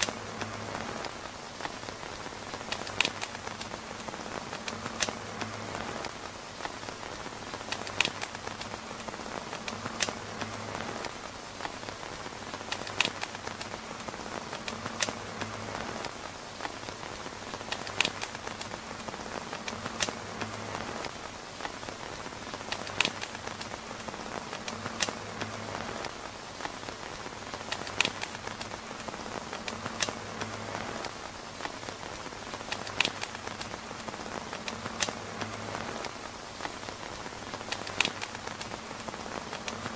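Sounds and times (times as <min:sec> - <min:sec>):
rain pattering on tent fabric: 0:00.0 - 0:39.9.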